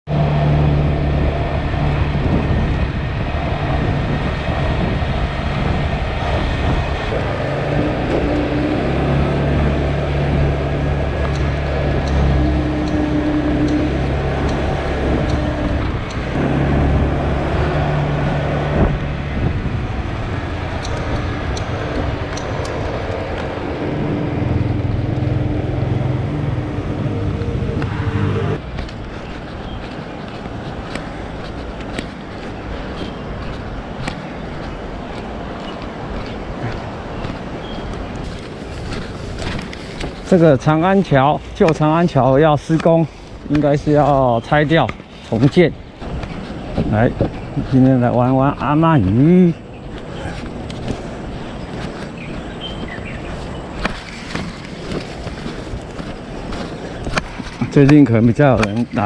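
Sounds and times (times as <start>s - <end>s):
road traffic engine hum: 0.0s - 59.0s.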